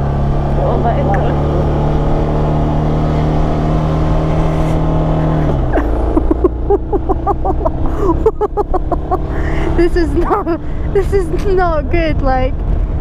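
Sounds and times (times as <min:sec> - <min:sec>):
motorcycle engine labouring uphill: 0:00.0 - 0:13.0.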